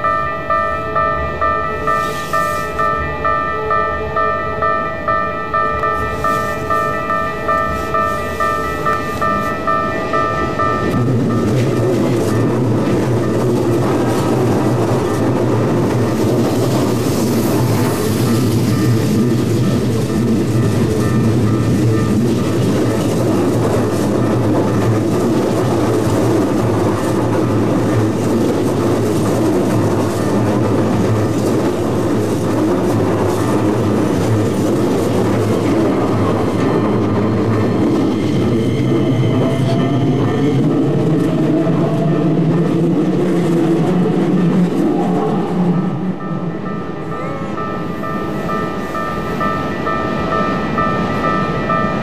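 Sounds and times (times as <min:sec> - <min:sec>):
electric train rumbling past: 0:00.0 - 0:52.0.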